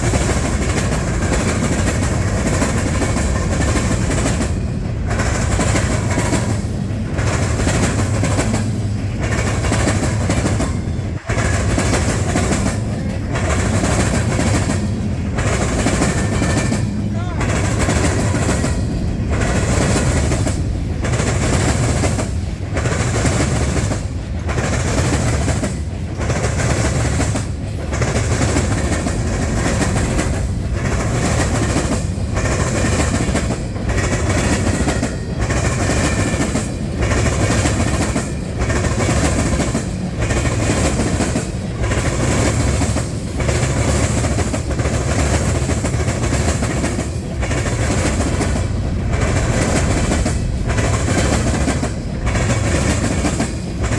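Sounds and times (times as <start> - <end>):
freight train wheels clattering: 0.0 - 53.9.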